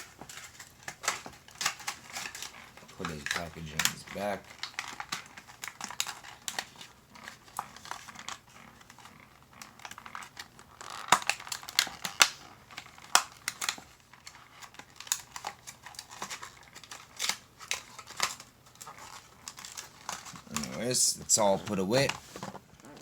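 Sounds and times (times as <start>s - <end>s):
packaging crinkling and rustling: 0.0s - 23.0s
sharp clicks and crackles: 0.0s - 23.0s.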